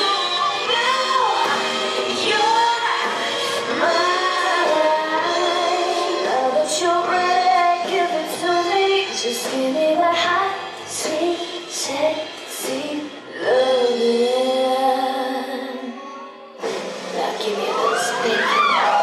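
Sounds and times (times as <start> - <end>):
woman singing: 0.0 - 16.3, 17.1 - 19.0
musical accompaniment: 0.0 - 19.0.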